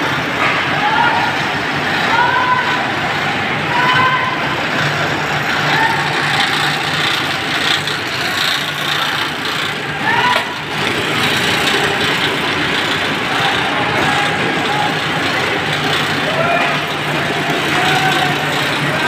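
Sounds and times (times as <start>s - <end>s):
low motor hum: 0.0s - 19.0s
oranges rattling over rollers: 1.4s - 19.0s.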